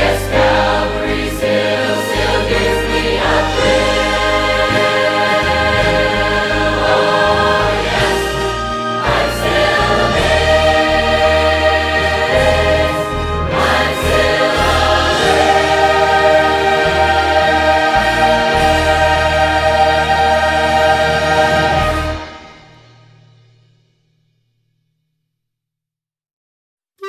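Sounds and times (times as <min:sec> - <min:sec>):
gospel choir singing: 0:00.0 - 0:22.8.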